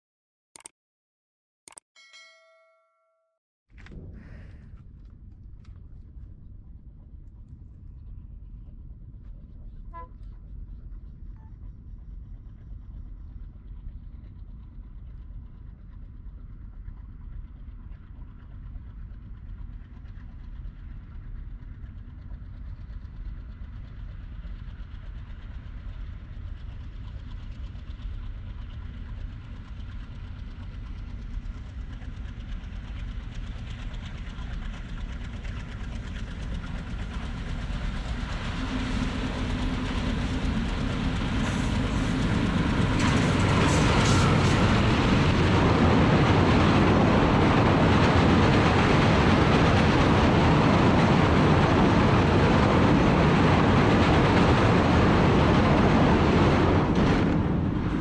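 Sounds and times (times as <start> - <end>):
train rumbling: 3.8 - 58.0.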